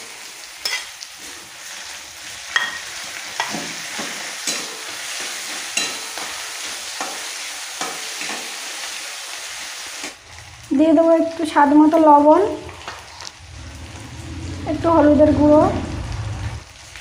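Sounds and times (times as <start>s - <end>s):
onions sizzling in hot oil: 0.0s - 14.8s, 15.8s - 17.0s.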